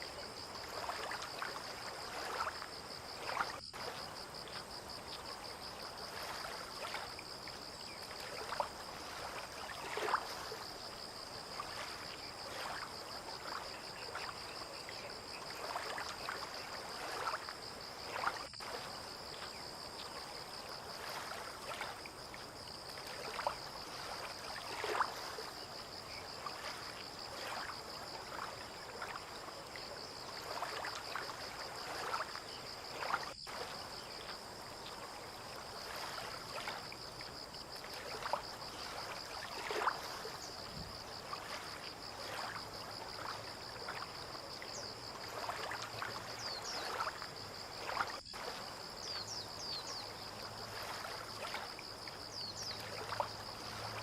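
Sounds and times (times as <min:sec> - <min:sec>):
insect trill: 0:00.0 - 0:54.0
water lapping and sloshing: 0:00.0 - 0:54.0.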